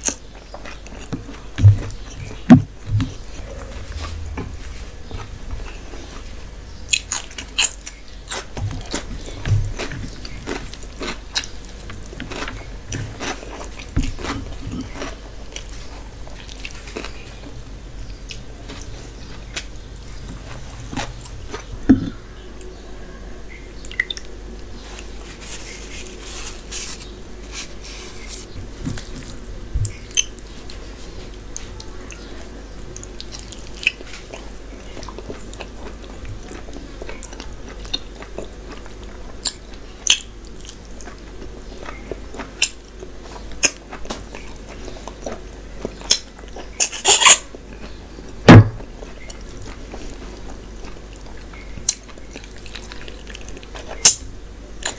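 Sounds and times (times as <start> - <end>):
person chewing: 0.0 - 17.5, 18.1 - 22.8, 23.9 - 54.9.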